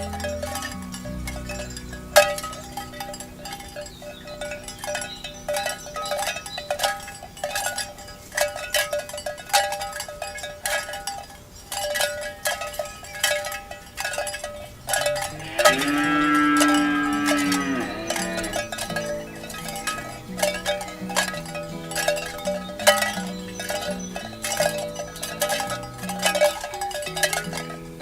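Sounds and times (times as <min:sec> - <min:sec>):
cowbells clanking: 0:00.0 - 0:28.0.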